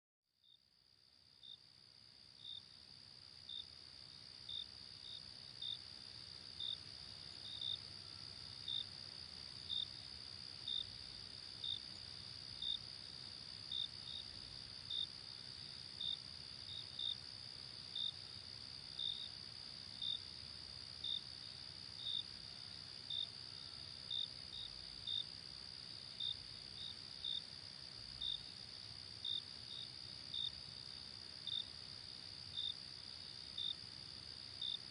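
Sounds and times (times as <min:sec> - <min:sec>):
cricket chirping: 0:00.4 - 0:34.9.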